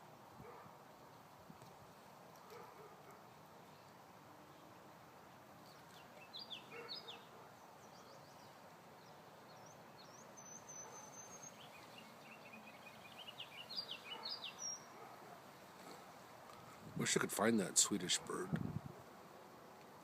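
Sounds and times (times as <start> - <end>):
faint outdoor background: 0.0 - 20.0
songbird chirping: 2.4 - 18.4.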